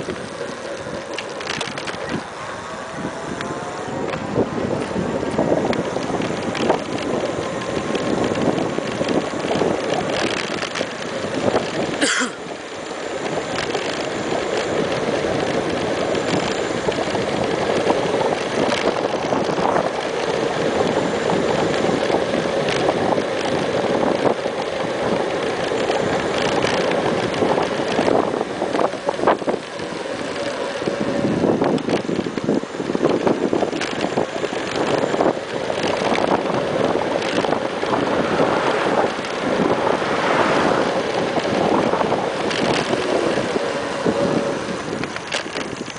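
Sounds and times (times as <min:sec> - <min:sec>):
hub motor whine: 0:00.0 - 0:45.9
wind noise on microphone: 0:00.0 - 0:45.9.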